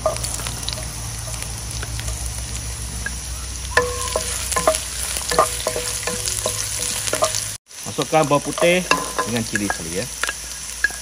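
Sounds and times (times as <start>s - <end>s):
food sizzling in hot oil: 0.0s - 11.0s
spatula scraping and clinking wok: 0.0s - 11.0s.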